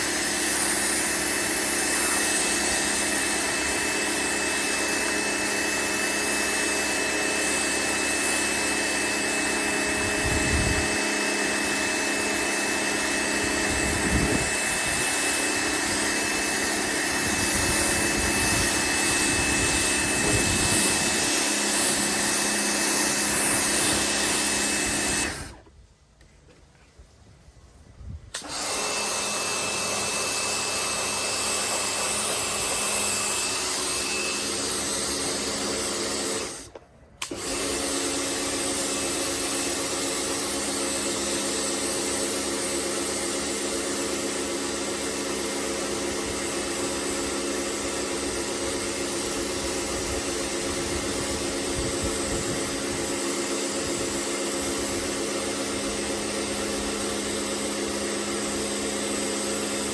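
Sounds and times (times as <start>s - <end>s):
pressure washer spraying: 0.0s - 25.6s, 28.3s - 59.9s.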